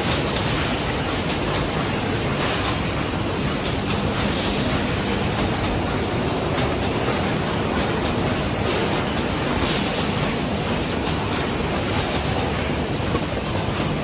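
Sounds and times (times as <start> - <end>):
conveyor machinery running: 0.0 - 14.0.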